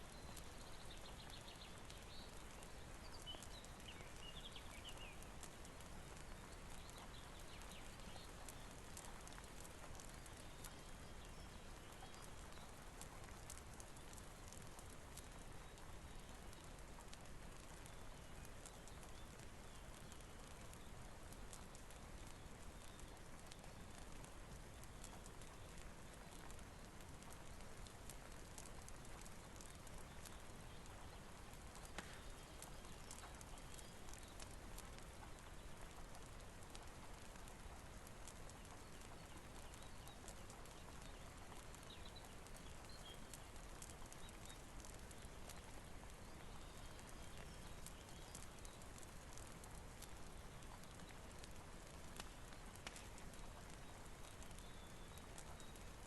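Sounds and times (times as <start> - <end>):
faint steady rain: 0.0 - 56.0
wood fire crackling: 0.0 - 56.0.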